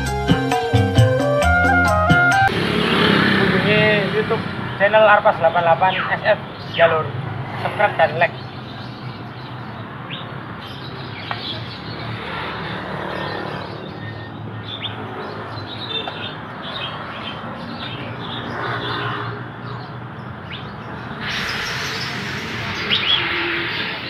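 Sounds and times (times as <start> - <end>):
songbirds chirping and twittering: 2.7 - 24.0.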